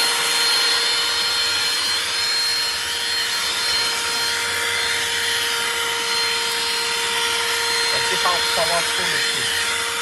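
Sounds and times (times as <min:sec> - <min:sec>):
handheld vacuum cleaner running: 0:00.0 - 0:10.0.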